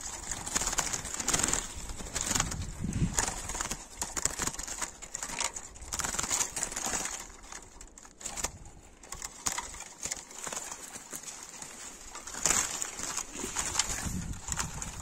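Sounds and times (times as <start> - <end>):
bird wings fluttering against wires: 0.0 - 15.0.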